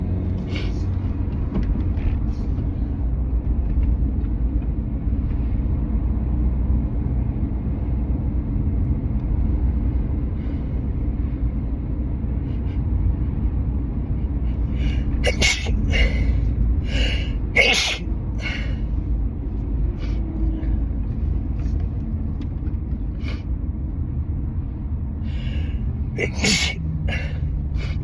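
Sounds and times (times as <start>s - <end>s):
road and engine rumble in car: 0.0s - 28.0s.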